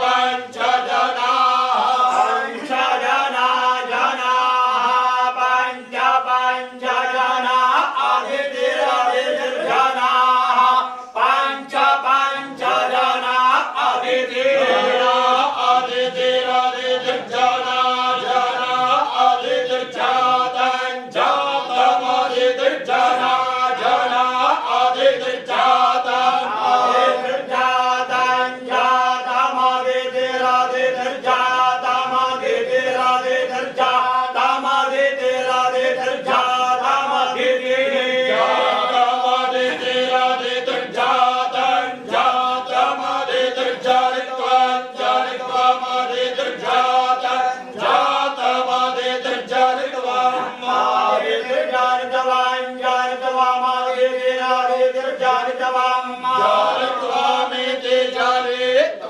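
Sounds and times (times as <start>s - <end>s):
men chanting in unison: 0.0s - 59.0s.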